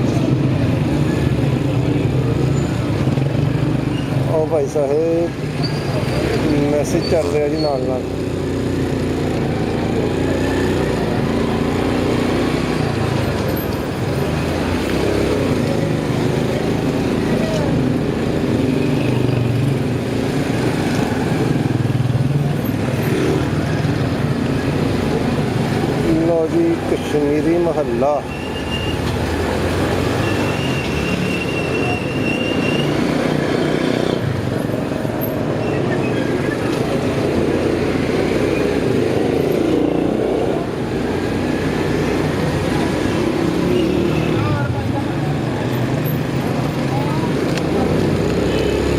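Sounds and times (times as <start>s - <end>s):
road noise: 0.0s - 48.9s.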